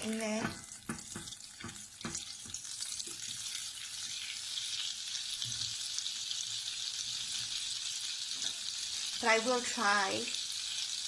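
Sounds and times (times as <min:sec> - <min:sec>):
butter sizzling in hot oil: 0:00.0 - 0:11.0.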